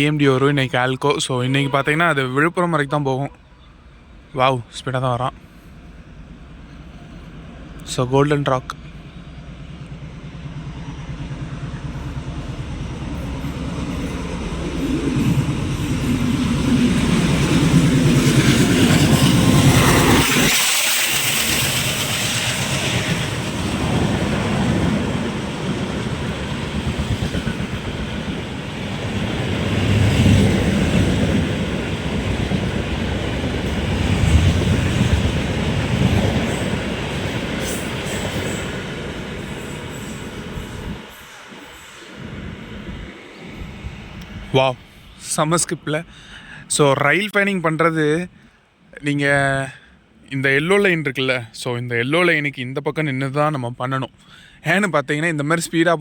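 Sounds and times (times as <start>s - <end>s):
train coaches rumbling and clattering: 0.0s - 48.1s
diesel locomotive passing: 0.0s - 56.0s.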